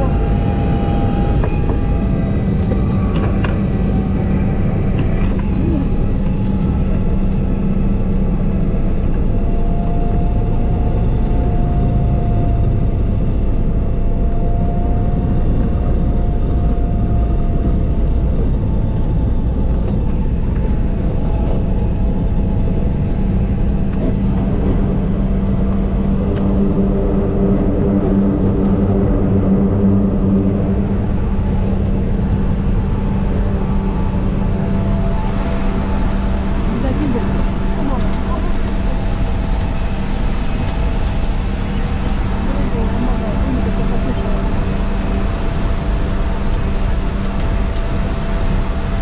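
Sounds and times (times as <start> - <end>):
propeller aircraft engine drone: 0.0 - 49.0.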